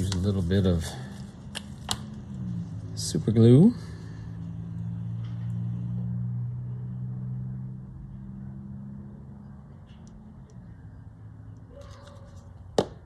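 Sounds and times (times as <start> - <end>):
low motor hum: 0.0 - 11.7.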